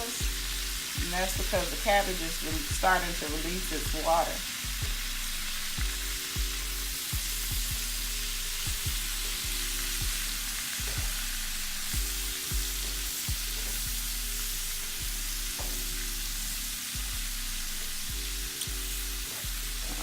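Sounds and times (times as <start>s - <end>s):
beat-based music with bass line: 0.0s - 20.0s
cabbage sizzling in a pan: 0.0s - 20.0s.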